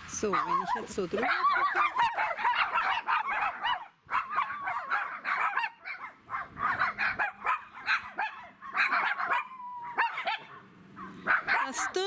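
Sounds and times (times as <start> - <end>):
small dogs barking and yapping: 0.1 - 12.0.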